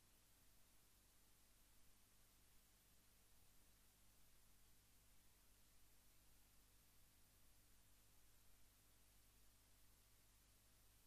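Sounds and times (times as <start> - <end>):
faint recording hiss: 0.0 - 11.0.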